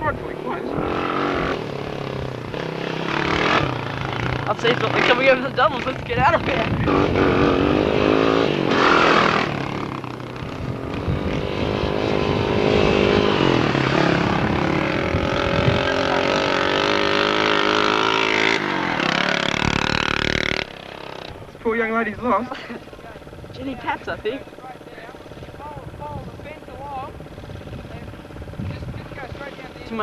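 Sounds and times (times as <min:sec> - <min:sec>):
atv engines revving: 0:00.0 - 0:30.0.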